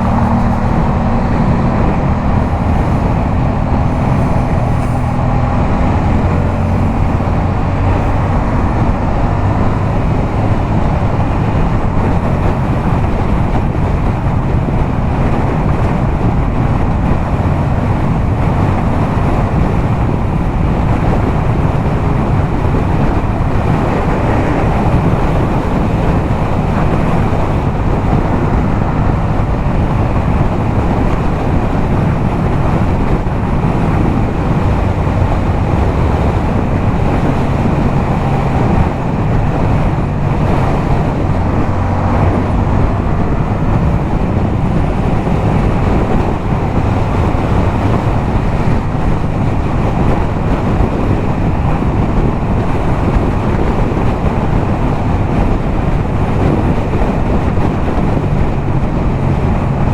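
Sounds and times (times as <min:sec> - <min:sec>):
motorcycle engine at highway speed: 0:00.0 - 0:59.9
wind noise on microphone: 0:00.0 - 0:59.9.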